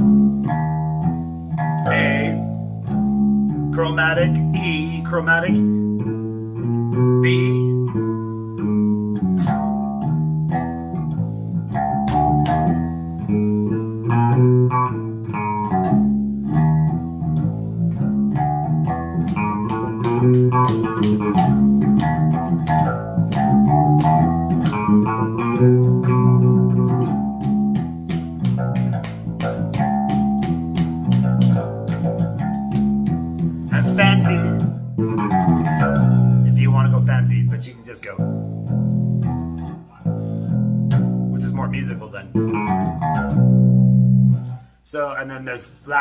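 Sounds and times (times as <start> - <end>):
bass guitar plucked notes: 0.0 - 46.0.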